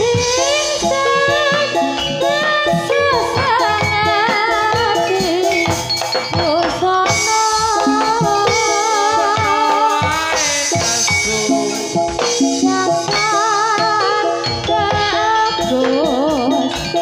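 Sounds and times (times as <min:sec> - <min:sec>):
drum strokes: 0:00.0 - 0:17.0
melody with wavering vibrato: 0:00.0 - 0:17.0
rattling percussion: 0:00.0 - 0:17.0.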